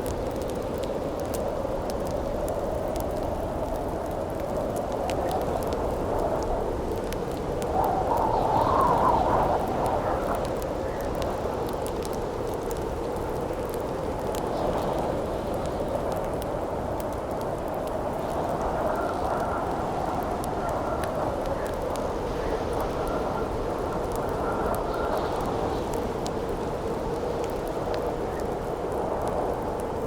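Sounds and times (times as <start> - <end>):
campfire crackling: 0.0 - 30.0
howling wind: 0.0 - 30.0.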